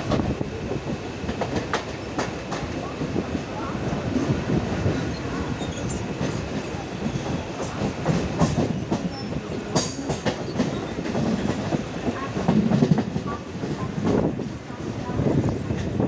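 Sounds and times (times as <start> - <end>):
train rumbling and rattling: 0.0 - 16.0.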